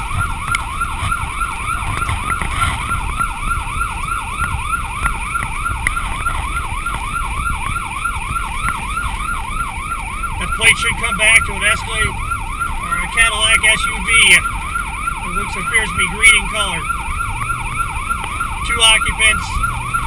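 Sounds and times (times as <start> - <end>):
police siren yelping: 0.0 - 20.0.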